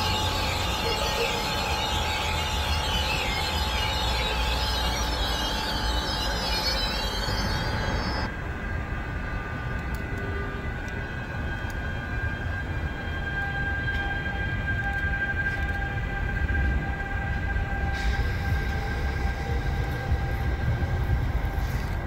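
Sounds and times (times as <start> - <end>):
high wheel squeal: 0.0 - 8.3, 10.4 - 22.0
passenger train rumbling: 0.0 - 22.0.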